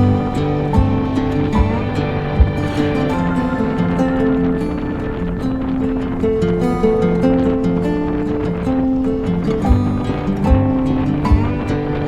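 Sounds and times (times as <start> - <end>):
music of long held notes: 0.0 - 12.0.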